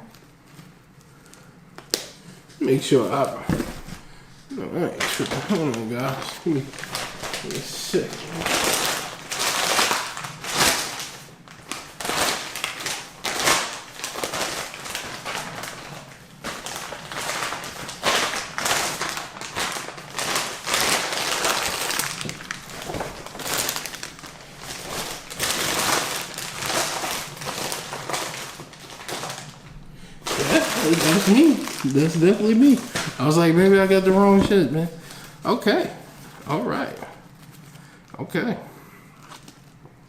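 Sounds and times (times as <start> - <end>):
paper and plastic packaging rustling: 0.0 - 38.1, 39.2 - 40.0.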